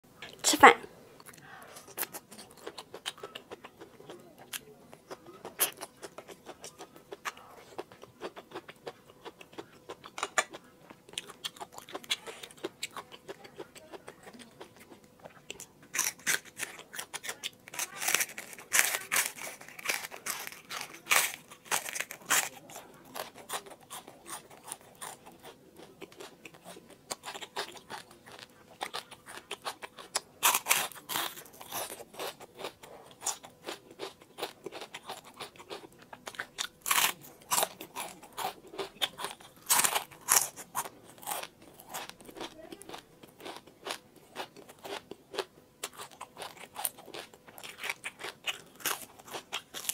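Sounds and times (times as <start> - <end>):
crunchy chewing of fried fish: 1.2 - 49.9.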